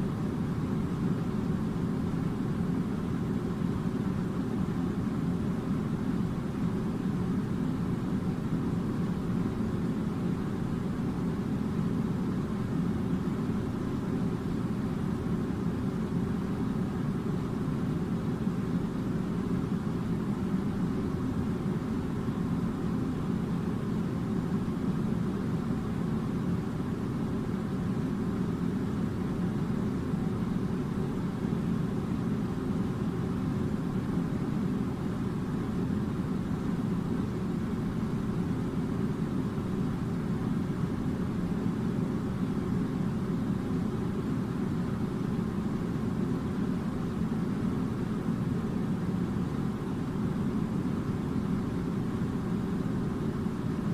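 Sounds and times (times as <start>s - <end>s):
air conditioner running: 0.0s - 53.9s.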